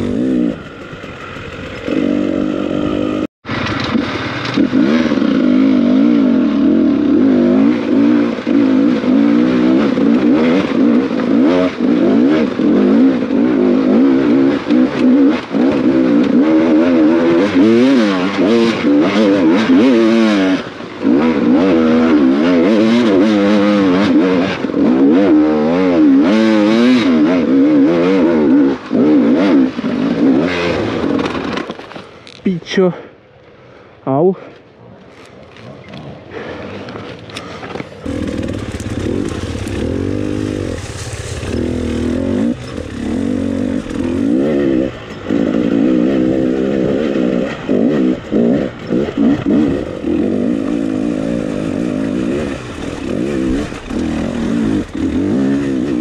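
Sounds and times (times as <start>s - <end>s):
dirt bike engine revving: 0.0s - 31.7s, 37.8s - 56.0s.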